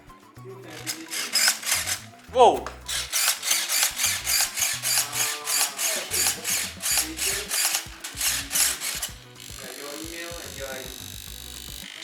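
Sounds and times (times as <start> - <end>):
servo gearbox whirring in bursts: 0.7 - 12.0.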